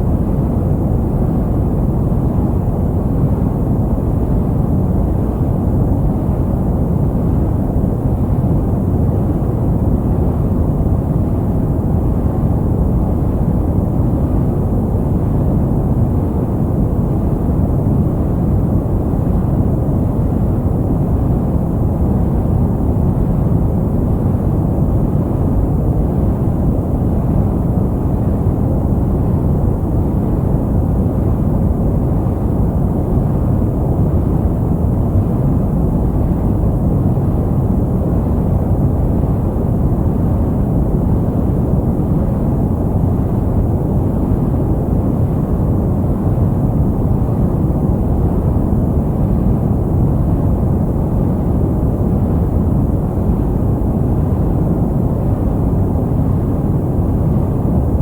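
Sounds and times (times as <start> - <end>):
low rumbling white noise: 0.0 - 58.0.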